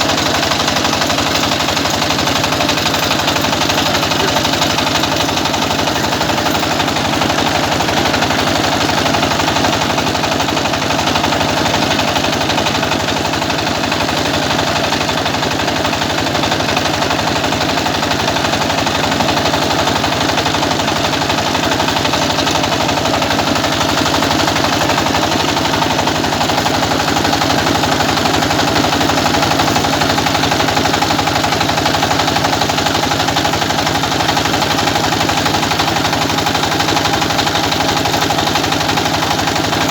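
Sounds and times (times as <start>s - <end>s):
rice milling machine running: 0.0s - 39.9s.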